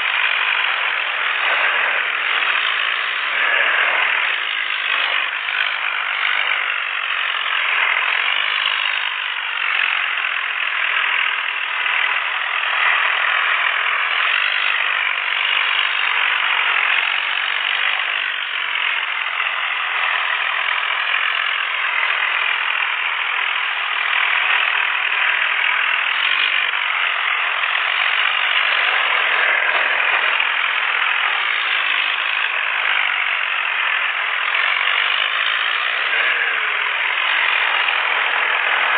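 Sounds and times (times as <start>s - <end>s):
tractor diesel engines under load: 0.0s - 38.9s.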